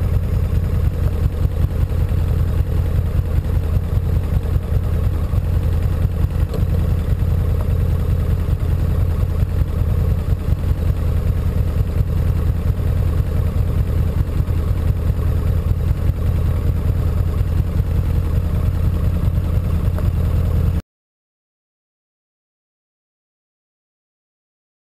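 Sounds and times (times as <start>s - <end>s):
motorcycle engine idling: 0.0s - 20.8s.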